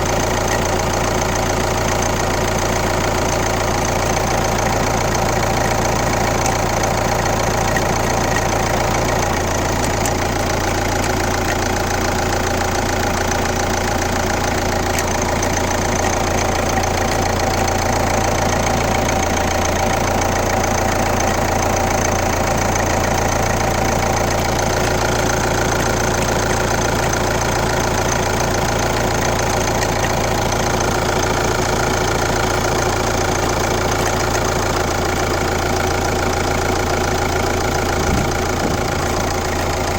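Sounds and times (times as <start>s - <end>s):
diesel engine idling: 0.0s - 39.9s
weird engine noise: 0.0s - 39.9s.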